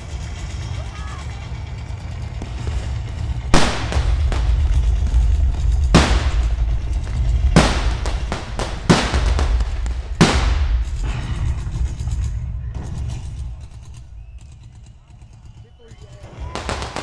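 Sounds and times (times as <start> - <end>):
pyrotechnic explosions: 0.0 - 15.2, 16.2 - 17.0
low rumble: 0.0 - 17.0.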